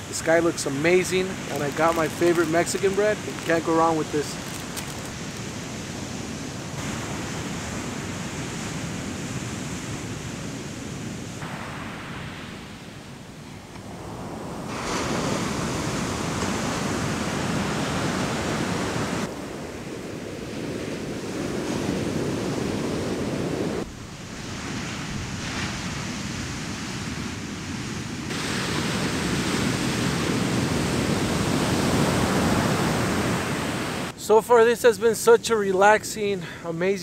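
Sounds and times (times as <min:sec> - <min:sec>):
ocean surf breaking on beach: 0:00.0 - 0:36.1.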